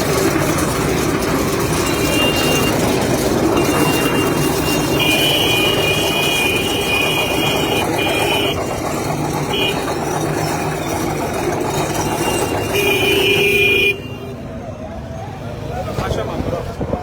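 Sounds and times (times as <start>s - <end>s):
street noise: 0.0s - 17.0s
vehicle engine running: 0.0s - 17.0s.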